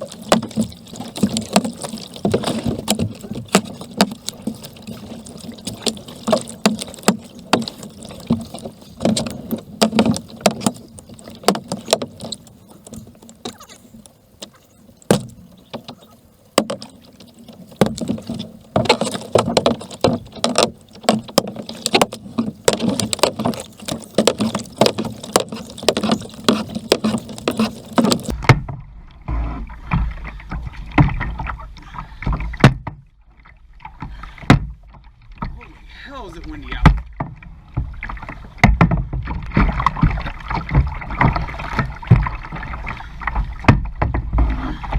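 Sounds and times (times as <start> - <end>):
rushing water: 0.0 - 32.7, 35.2 - 44.9
paddle strokes splashing water: 0.0 - 44.9.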